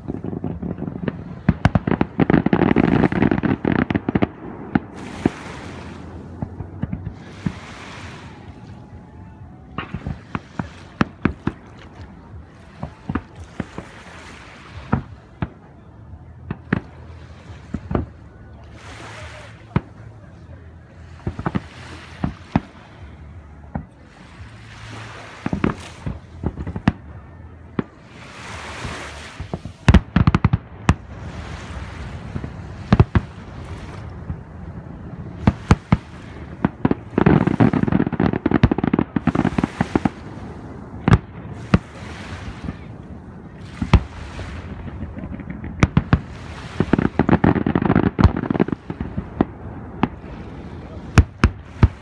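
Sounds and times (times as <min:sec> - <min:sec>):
fireworks bursting: 0:00.0 - 0:15.6, 0:25.0 - 0:27.2, 0:27.8 - 0:52.0.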